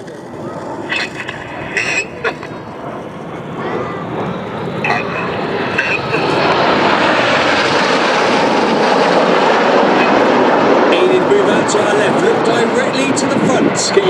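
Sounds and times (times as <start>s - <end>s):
jets flying past roaring: 0.0s - 14.0s.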